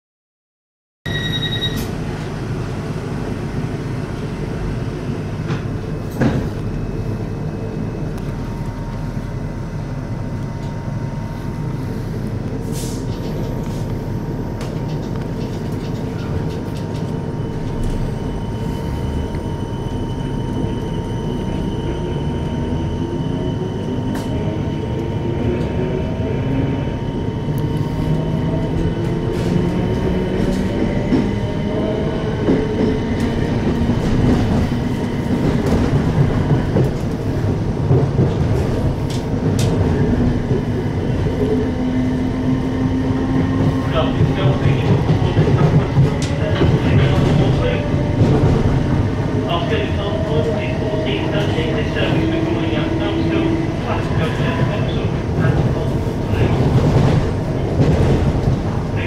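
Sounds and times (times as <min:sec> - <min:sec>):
train hum and rumble: 0:01.1 - 0:59.0.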